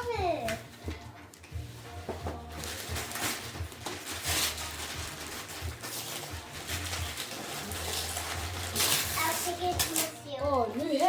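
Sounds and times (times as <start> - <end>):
wrapping paper rustling and tearing: 1.8 - 11.0.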